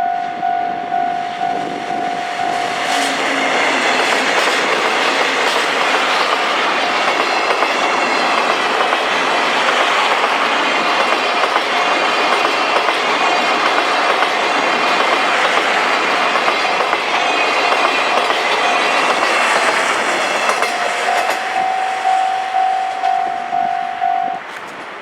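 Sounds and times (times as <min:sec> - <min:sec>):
train wheels clacking over rail joints: 0:01.5 - 0:23.2.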